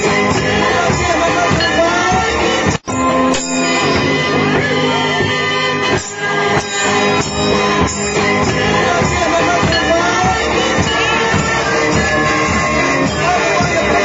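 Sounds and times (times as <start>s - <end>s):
christmas carol music with singing: 0.0s - 14.0s.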